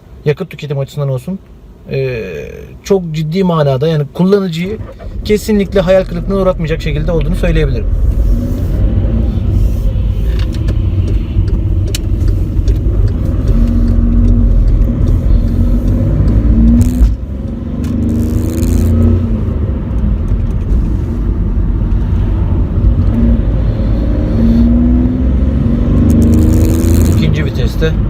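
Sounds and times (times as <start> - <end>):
diesel engine accelerating: 4.6 - 28.0.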